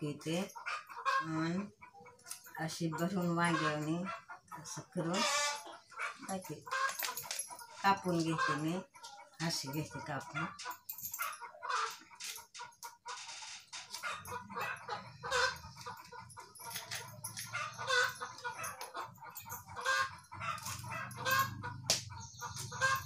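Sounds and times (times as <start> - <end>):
hens clucking: 0.1 - 23.0.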